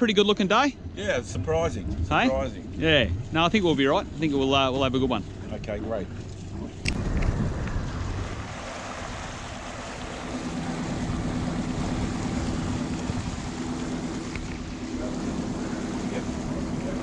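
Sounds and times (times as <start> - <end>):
motorboat engine running: 0.0 - 17.0
water washing past hull: 0.0 - 17.0.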